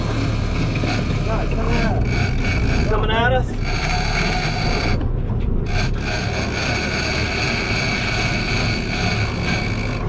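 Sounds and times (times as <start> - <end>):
low rumble: 0.0 - 10.0
fishing reel drag whining: 0.6 - 5.0, 5.7 - 10.0.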